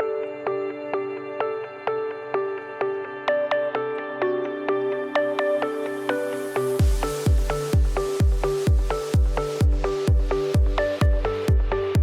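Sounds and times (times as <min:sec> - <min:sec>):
ambient electronic music: 0:00.0 - 0:12.0.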